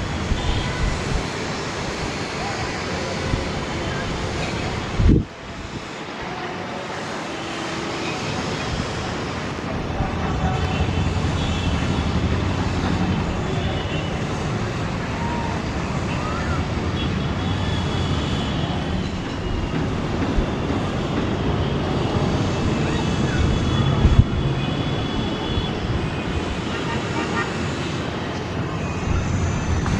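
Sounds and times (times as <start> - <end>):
distant jet engines running: 0.0 - 29.9.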